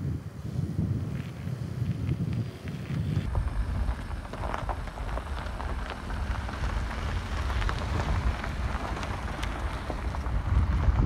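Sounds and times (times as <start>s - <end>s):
engine and tyres rumbling: 0.0s - 11.0s
gravel crackling under wheels: 0.0s - 11.0s.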